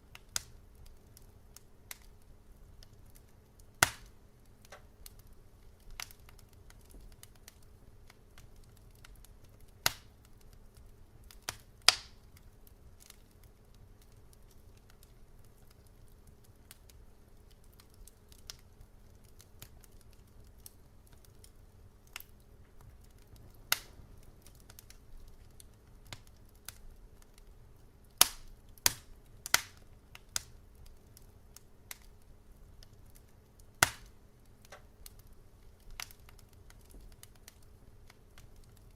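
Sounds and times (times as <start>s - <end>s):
faint low background hum: 0.0s - 38.9s
wood fire crackling: 0.0s - 38.9s.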